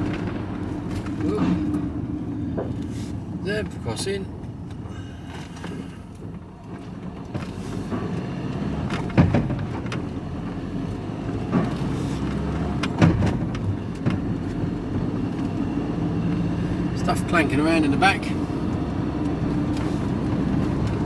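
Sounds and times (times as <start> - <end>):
vehicle engine pulling away: 0.0 - 21.0.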